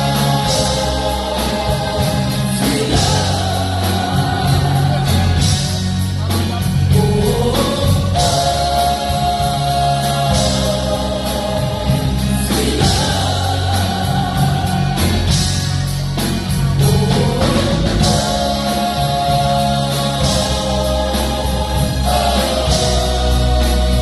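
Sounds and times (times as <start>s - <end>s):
band with bass and drums: 0.0s - 24.0s
gospel choir singing: 0.0s - 24.0s.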